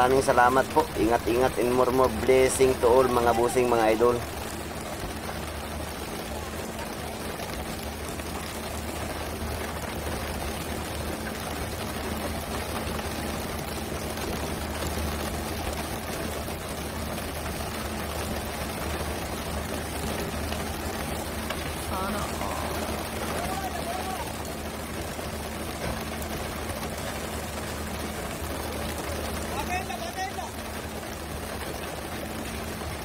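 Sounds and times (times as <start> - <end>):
boat engine droning: 0.0 - 33.0
water rushing along hull: 0.0 - 33.0.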